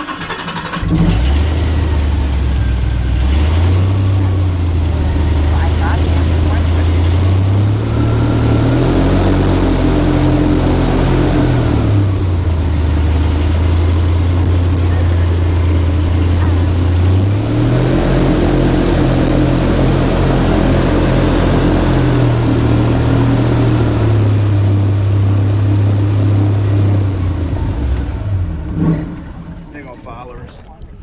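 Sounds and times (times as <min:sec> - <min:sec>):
airboat engine and propeller: 0:00.0 - 0:31.0.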